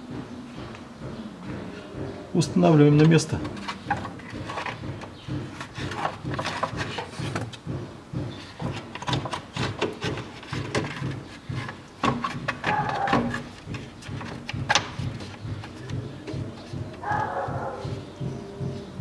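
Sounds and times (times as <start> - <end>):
hard plastic clicking and knocking: 0.0 - 19.0.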